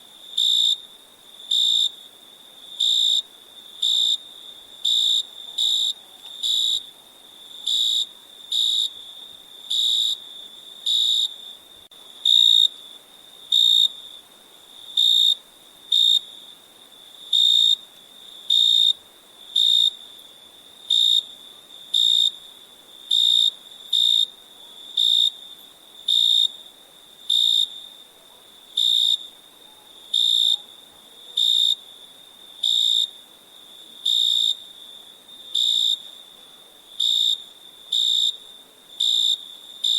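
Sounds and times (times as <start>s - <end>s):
cricket chirping: 0.0s - 39.9s
faint cricket trill: 0.0s - 39.9s.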